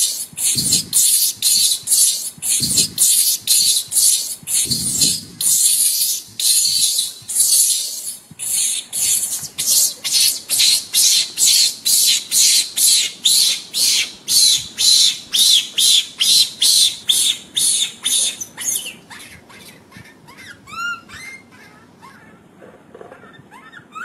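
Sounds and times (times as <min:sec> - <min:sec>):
animal harsh shrill calls: 0:00.0 - 0:19.4.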